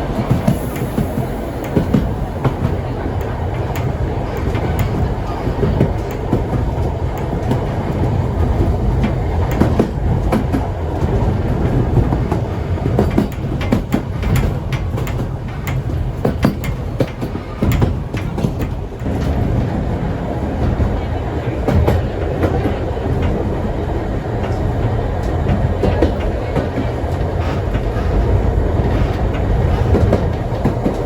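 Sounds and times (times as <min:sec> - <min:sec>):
train carriages rumbling on track: 0:00.0 - 0:31.0
wheels clacking over rails: 0:00.0 - 0:31.0.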